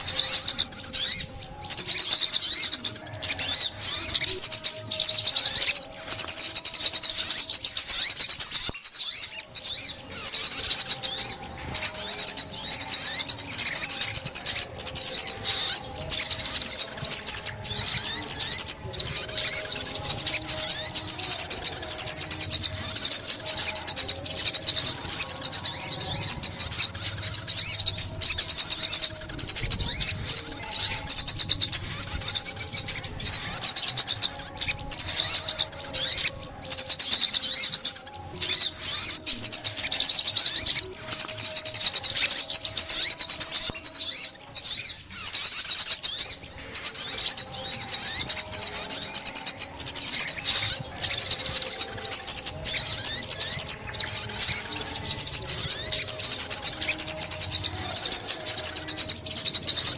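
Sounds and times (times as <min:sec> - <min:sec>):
bird twittering and trilling: 0:00.0 - 0:59.9.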